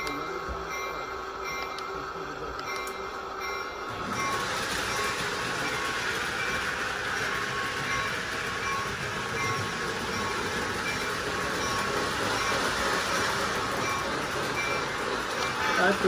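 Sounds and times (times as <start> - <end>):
model train clattering on track: 2.5 - 16.0.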